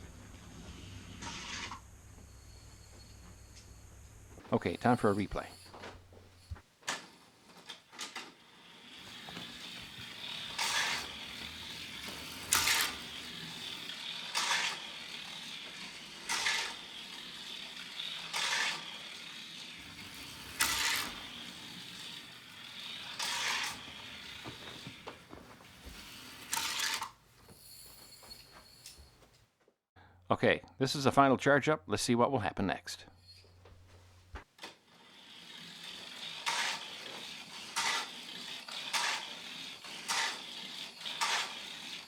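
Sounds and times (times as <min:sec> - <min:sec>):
toy car electric motor whine: 0:00.0 - 0:03.8, 0:04.7 - 0:27.2, 0:34.6 - 0:42.0.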